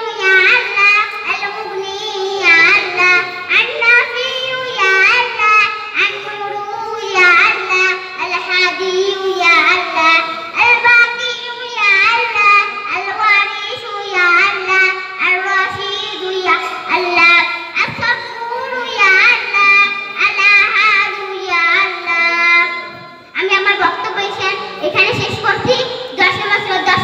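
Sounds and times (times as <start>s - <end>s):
girl singing into microphone: 0.0s - 27.0s.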